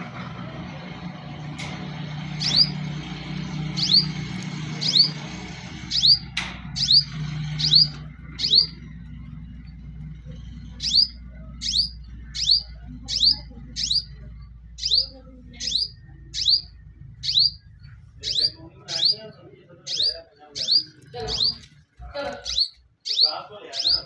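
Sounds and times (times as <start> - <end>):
small bird chirping: 2.3 - 3.0, 3.6 - 24.0.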